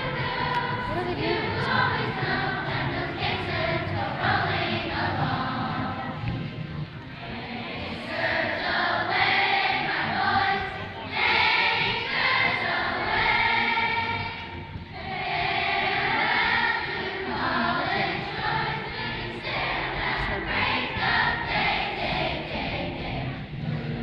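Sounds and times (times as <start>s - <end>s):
children's choir singing: 0.0s - 24.0s.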